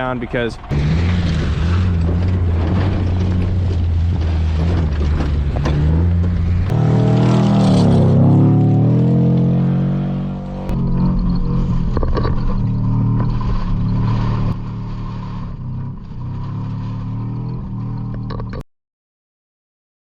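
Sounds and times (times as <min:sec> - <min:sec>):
pickup truck engine revving: 0:00.0 - 0:18.5
road and gravel noise: 0:00.0 - 0:18.6.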